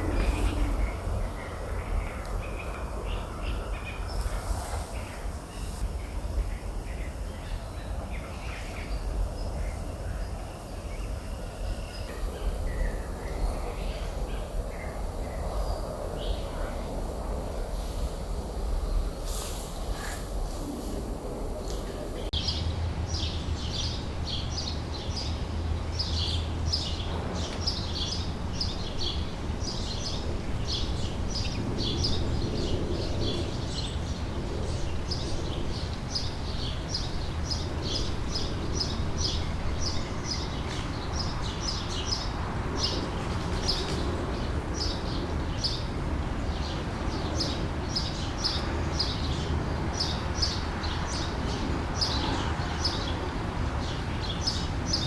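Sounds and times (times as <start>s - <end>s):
steady low rumble: 0.0s - 5.4s, 11.6s - 50.8s
birds chirping: 0.0s - 14.9s, 22.3s - 55.0s.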